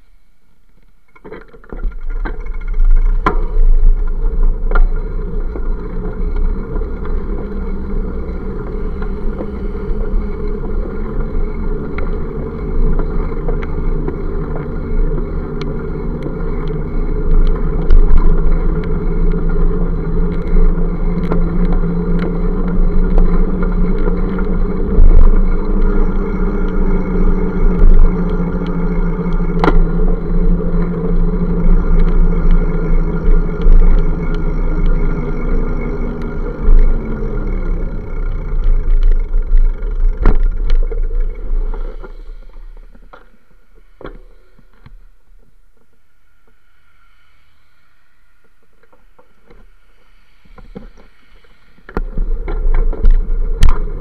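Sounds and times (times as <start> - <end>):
engine hum: 0.0 - 54.0
passing motor traffic: 0.0 - 54.0
wind rumble on microphone: 1.6 - 46.0, 50.4 - 54.0.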